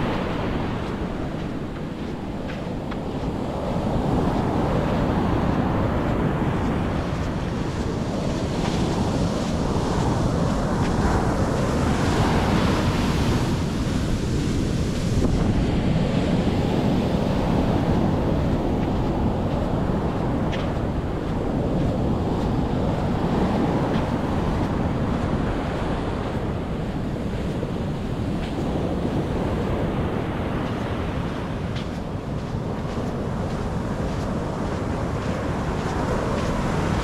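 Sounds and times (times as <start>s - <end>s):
sea waves washing on beach: 0.0s - 37.0s
wind rumbling on microphone: 0.0s - 37.0s.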